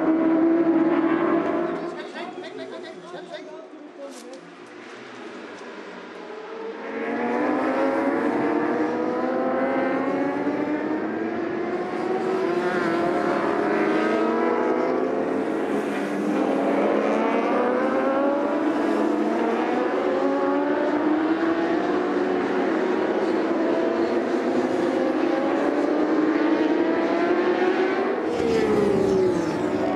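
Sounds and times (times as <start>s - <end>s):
racing motorcycle engines accelerating: 0.0s - 2.2s, 4.5s - 29.9s.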